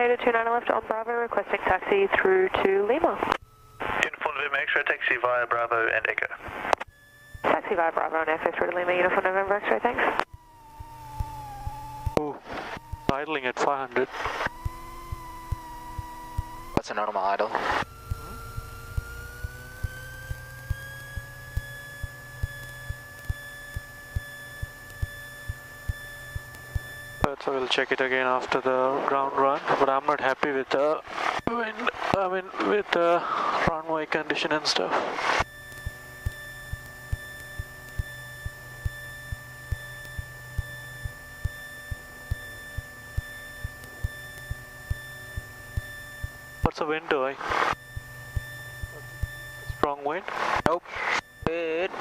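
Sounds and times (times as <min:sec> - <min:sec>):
steady electrical whine: 0:00.0 - 0:52.0.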